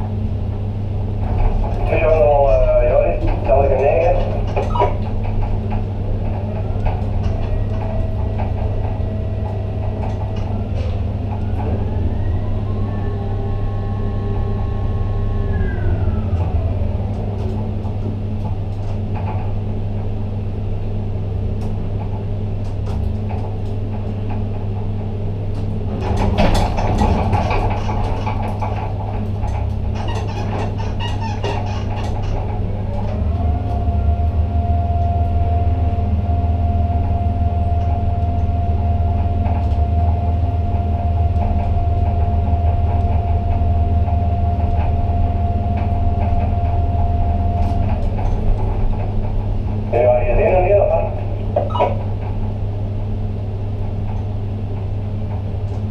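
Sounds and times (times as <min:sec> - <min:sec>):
rattling and clanking: 0:00.0 - 0:35.2, 0:36.9 - 0:55.9
crane drives humming: 0:00.0 - 0:55.9
trolley motor whining: 0:00.0 - 0:55.9.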